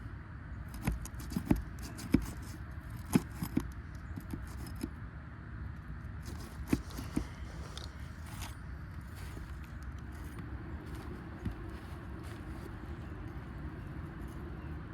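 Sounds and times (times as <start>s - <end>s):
low steady rumble: 0.0s - 14.9s.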